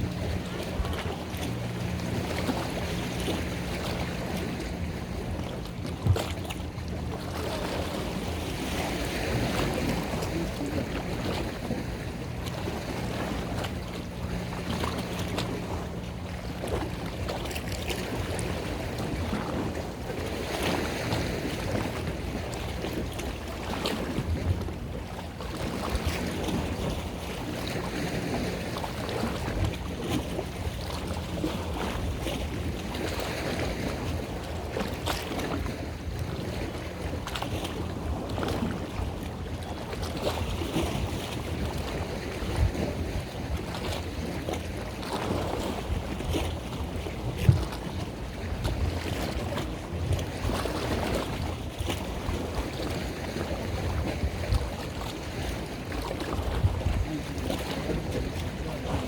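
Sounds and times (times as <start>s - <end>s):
boat engine running: 0.0s - 59.0s
water splashing: 0.0s - 59.0s
wind buffeting microphone: 0.0s - 59.0s.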